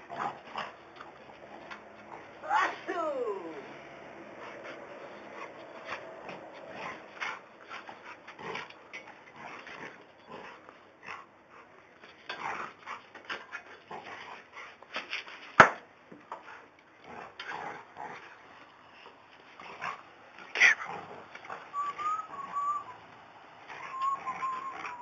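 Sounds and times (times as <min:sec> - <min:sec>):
dogs play-fighting noises: 0:00.0 - 0:02.4, 0:03.6 - 0:25.0.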